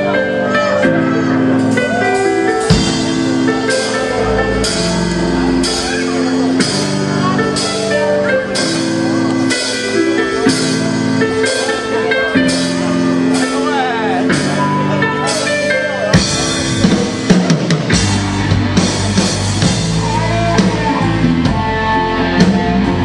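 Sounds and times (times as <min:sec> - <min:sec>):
rock band playing live: 0:00.0 - 0:23.0
drum kit beat: 0:01.4 - 0:23.0.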